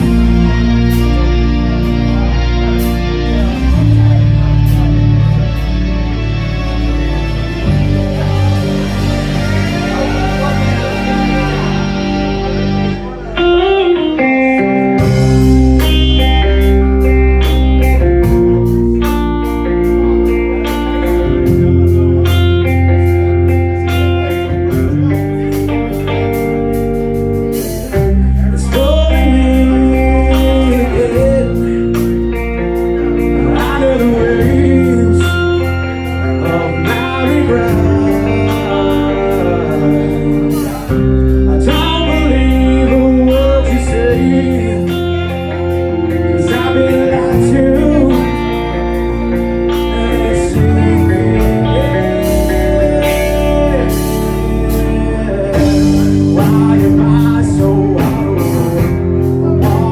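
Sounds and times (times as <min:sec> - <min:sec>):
bass guitar: 0:00.0 - 0:59.9
electric guitars: 0:00.0 - 0:59.9
person singing: 0:00.0 - 0:59.9.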